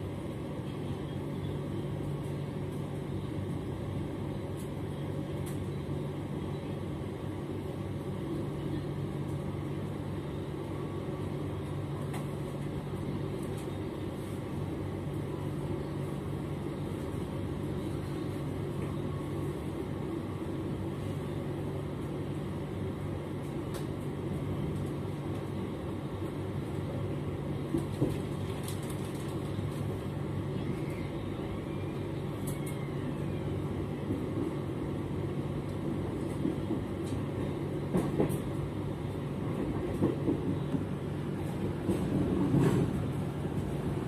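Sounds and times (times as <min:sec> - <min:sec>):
train rumble with low hum: 0:00.0 - 0:44.0.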